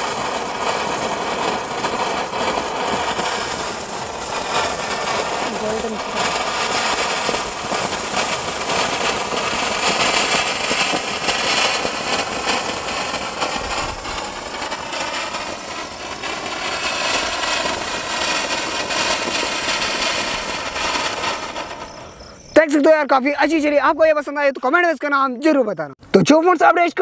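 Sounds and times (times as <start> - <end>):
sparkler firework hissing: 0.0 - 22.9.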